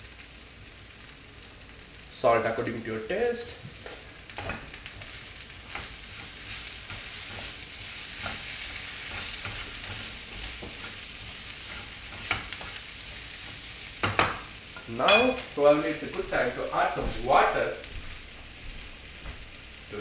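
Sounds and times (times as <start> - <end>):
potatoes sizzling in oil: 0.0 - 20.0.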